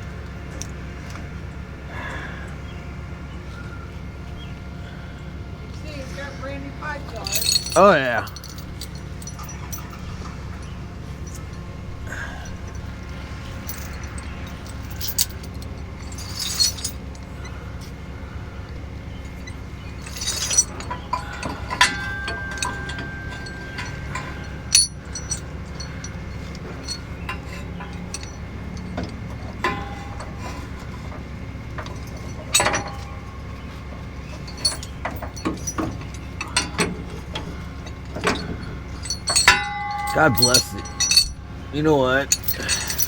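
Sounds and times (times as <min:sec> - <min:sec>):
truck engine idling: 0:00.0 - 0:43.0
metal chains clinking: 0:05.8 - 0:43.0.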